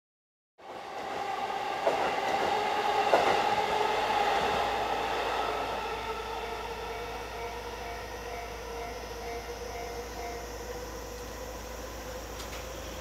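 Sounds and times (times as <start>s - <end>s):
electric train running noise: 0.6s - 13.0s.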